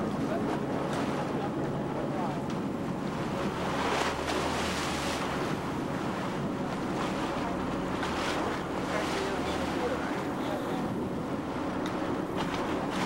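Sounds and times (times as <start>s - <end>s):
boat engine low hum: 0.0s - 13.0s
water churning and slapping: 0.0s - 13.0s
wind buffeting microphone: 0.0s - 13.0s.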